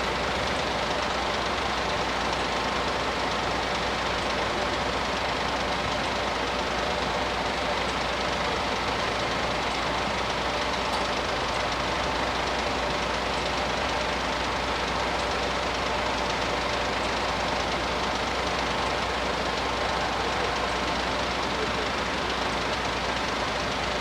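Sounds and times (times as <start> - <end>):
diesel train rumbling: 0.0 - 24.0.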